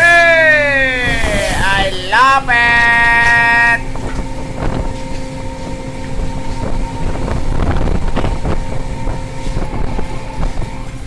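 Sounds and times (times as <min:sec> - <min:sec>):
boat engine rumble: 0:00.0 - 0:11.0
wind on microphone: 0:00.9 - 0:11.0.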